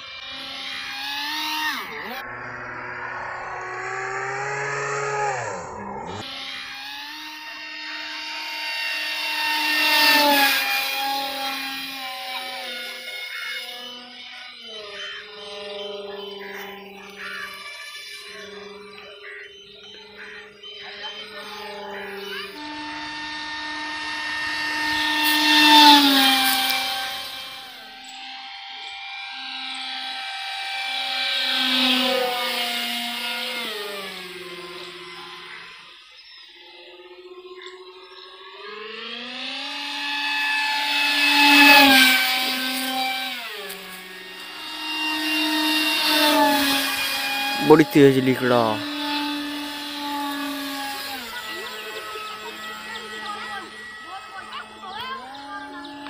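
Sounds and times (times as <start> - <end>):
model plane motor whining past: 0.0 - 56.0.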